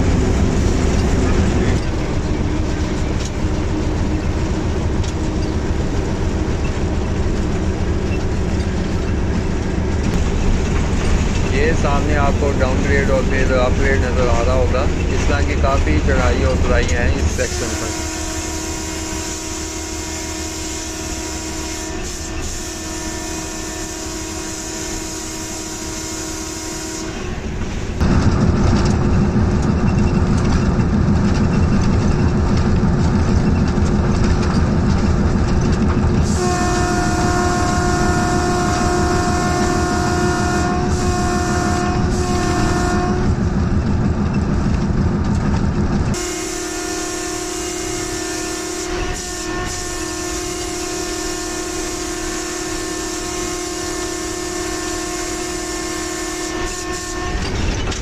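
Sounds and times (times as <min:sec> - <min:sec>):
locomotive horn: 0:00.0 - 0:10.3, 0:10.9 - 0:28.9, 0:35.6 - 0:43.4, 0:46.1 - 0:58.0
locomotive engine: 0:00.0 - 0:58.0.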